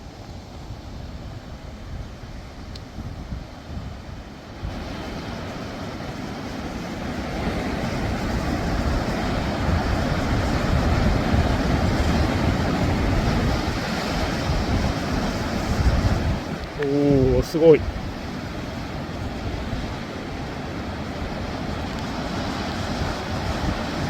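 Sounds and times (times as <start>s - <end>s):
surf: 0.0s - 24.0s
wind: 0.0s - 24.0s.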